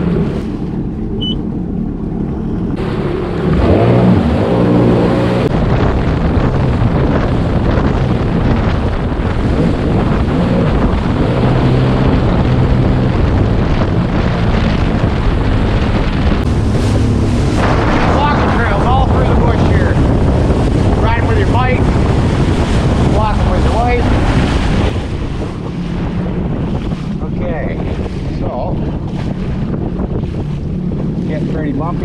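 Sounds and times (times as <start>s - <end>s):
water rushing along hull: 0.0s - 32.0s
watercraft engine revving: 0.0s - 32.0s
wind on microphone: 0.0s - 32.0s.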